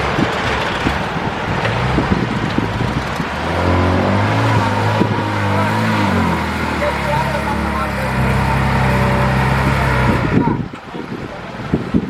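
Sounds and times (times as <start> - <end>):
heavy machine engine running: 0.0 - 12.0
knocks and clanks: 0.0 - 12.0.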